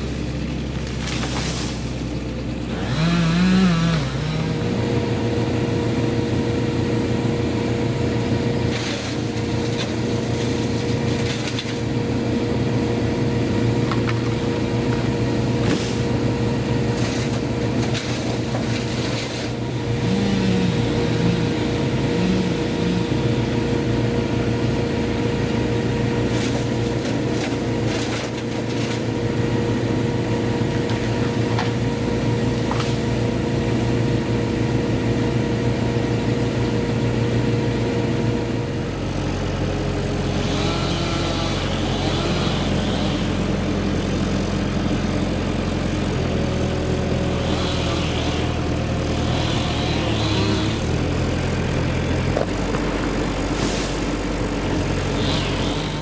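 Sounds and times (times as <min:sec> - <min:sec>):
petrol engine running: 0:00.0 - 0:56.0.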